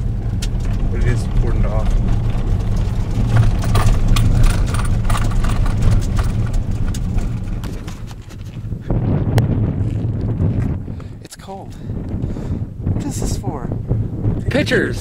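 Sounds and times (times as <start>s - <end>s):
car road rumble: 0.0s - 15.0s
gravel crackling under tyres: 0.0s - 15.0s.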